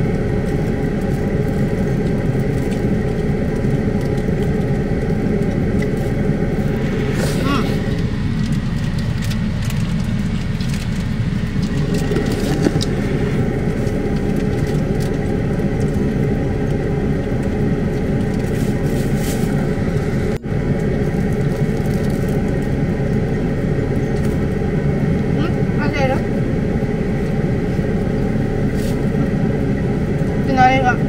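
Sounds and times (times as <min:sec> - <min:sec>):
engine and road rumble in cab: 0:00.0 - 0:31.0.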